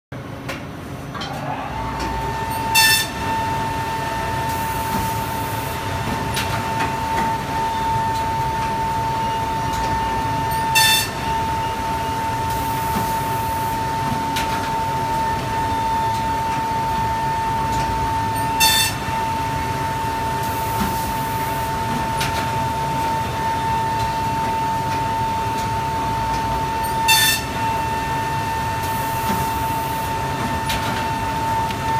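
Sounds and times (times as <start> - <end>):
binding machine hum and whine: 0.2 - 31.9.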